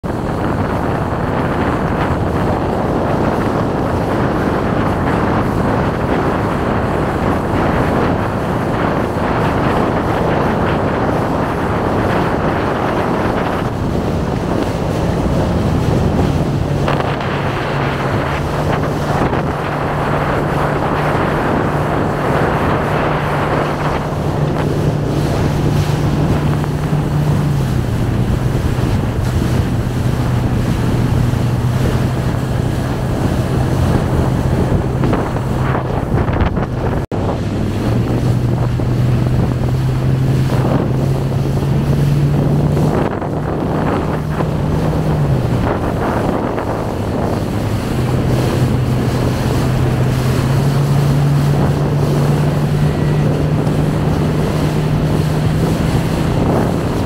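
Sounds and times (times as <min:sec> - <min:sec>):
low motor hum: 0:00.0 - 0:57.0
water rushing past boat: 0:00.0 - 0:57.0
wind buffeting microphone: 0:00.0 - 0:57.0.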